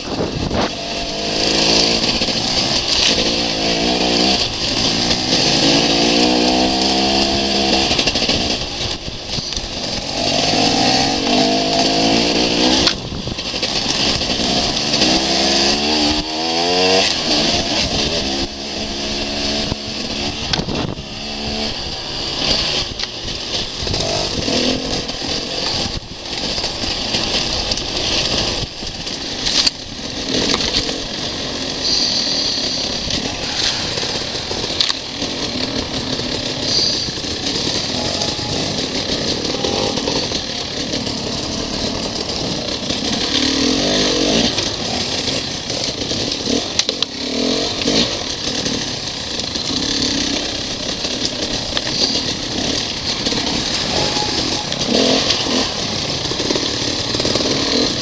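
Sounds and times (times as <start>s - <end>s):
dirt bike engine revving: 0.0s - 58.0s
steady rushing noise: 0.0s - 58.0s.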